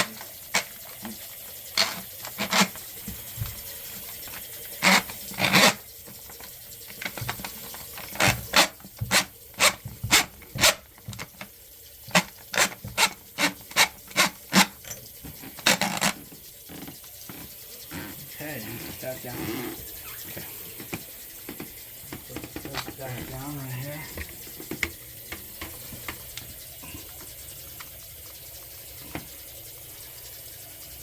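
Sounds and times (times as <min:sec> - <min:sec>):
tool scraping sink drain: 0:00.0 - 0:29.6.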